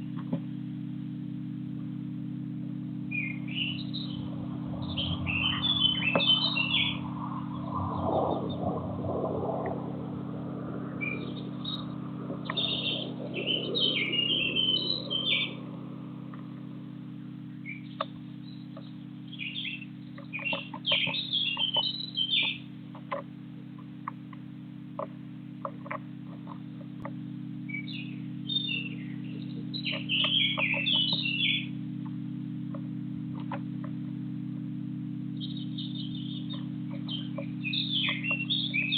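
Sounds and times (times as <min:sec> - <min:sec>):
steady low hum: 0:00.0 - 0:38.9
small birds chirping: 0:02.9 - 0:38.9.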